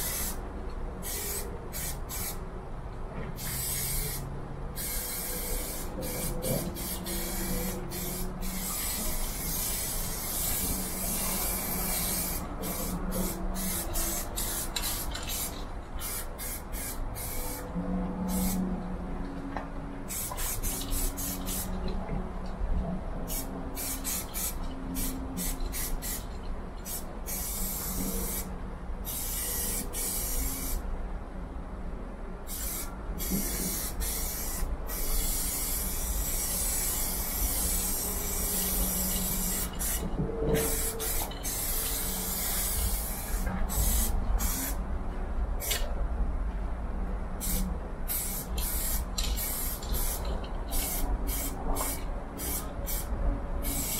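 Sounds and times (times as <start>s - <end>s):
spray can hissing: 0.0s - 0.4s, 1.0s - 2.4s, 3.4s - 17.6s, 18.3s - 18.6s, 20.1s - 21.8s, 23.3s - 28.5s, 29.1s - 30.8s, 32.5s - 44.8s, 47.4s - 53.9s.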